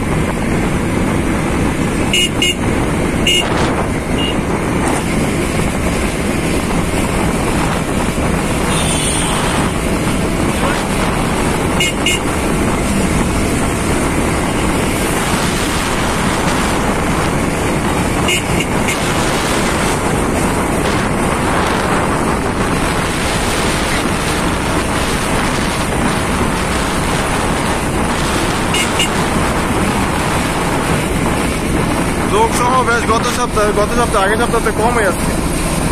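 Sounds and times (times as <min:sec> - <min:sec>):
vehicle road and wind noise: 0:00.0 - 0:35.9.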